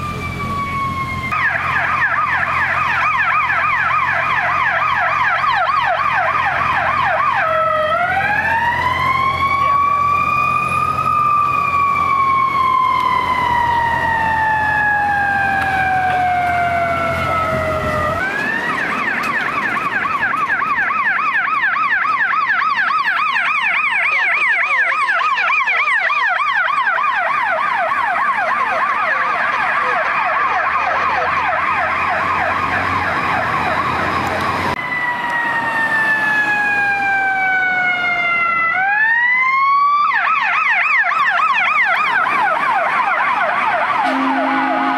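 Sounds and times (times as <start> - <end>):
electronic siren wailing and yelping: 0.0 - 44.9.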